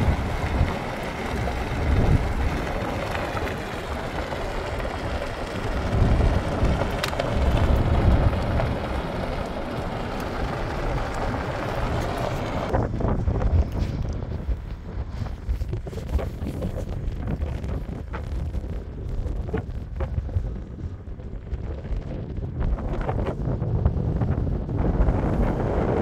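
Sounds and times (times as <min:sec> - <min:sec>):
vehicle driving on dirt road: 0:00.0 - 0:26.0
wind buffeting microphone: 0:00.0 - 0:26.0.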